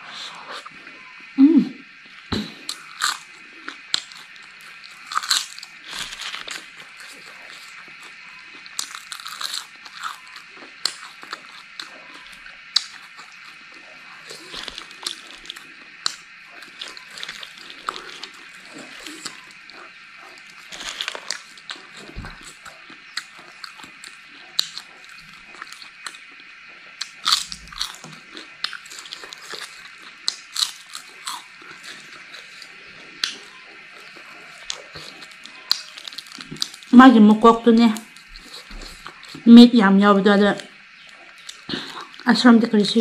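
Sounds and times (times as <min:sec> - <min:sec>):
crunching and chewing: 0:02.0 - 0:39.6, 0:40.6 - 0:43.0.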